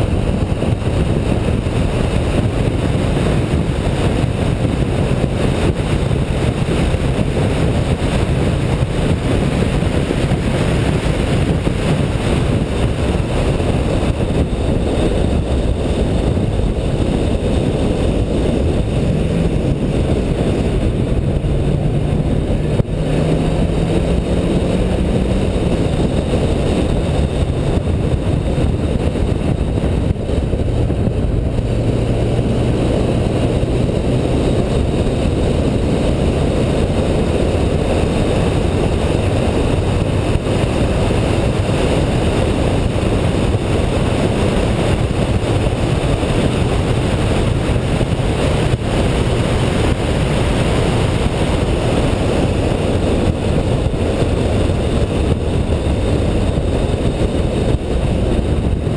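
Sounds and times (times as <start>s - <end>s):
car engine: 0.0s - 58.9s
wind and road noise: 0.0s - 58.9s.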